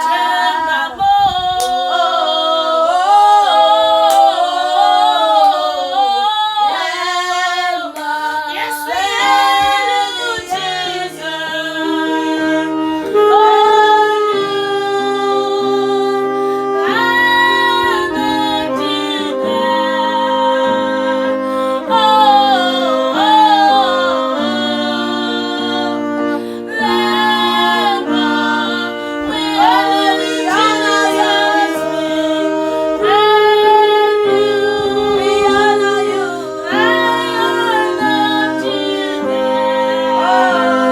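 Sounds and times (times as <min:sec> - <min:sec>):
sustained accompanying chords: 0:00.0 - 0:40.9
woman singing worship song: 0:00.0 - 0:40.9.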